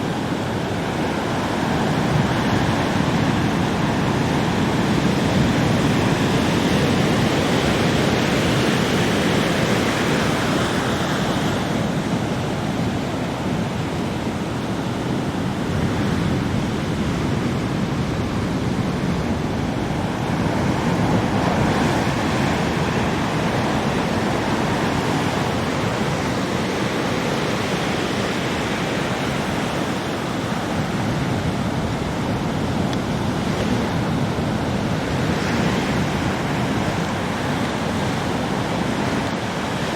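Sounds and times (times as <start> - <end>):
ocean waves breaking: 0.0 - 39.9
strong wind: 0.0 - 39.9.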